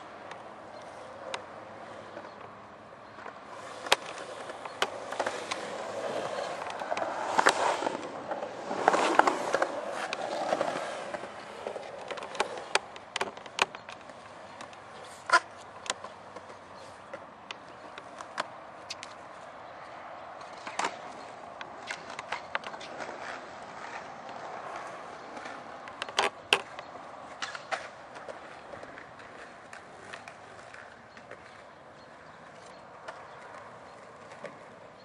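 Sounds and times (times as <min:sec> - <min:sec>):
skateboard wheels rolling on concrete: 0:00.0 - 0:35.0
skateboard clacking on concrete: 0:00.1 - 0:35.0.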